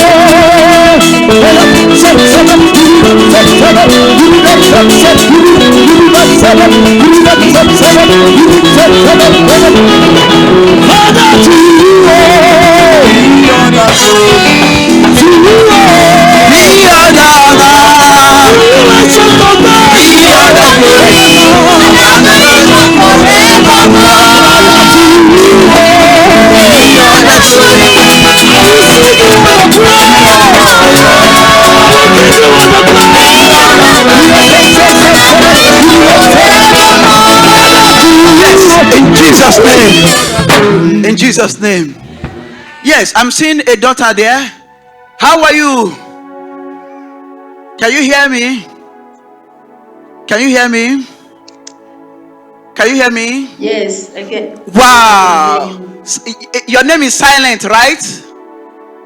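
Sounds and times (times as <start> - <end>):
gospel singing: 0.0 - 43.3, 47.5 - 59.0
instrumental backing: 0.0 - 59.0.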